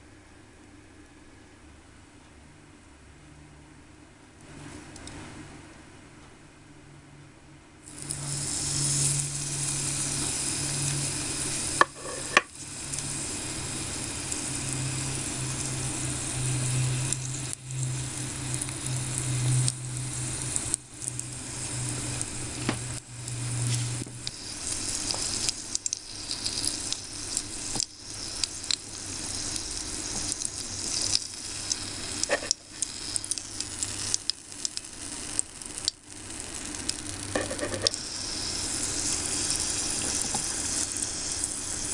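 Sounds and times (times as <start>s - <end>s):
cutlet sizzling in hot oil: 7.8s - 41.9s.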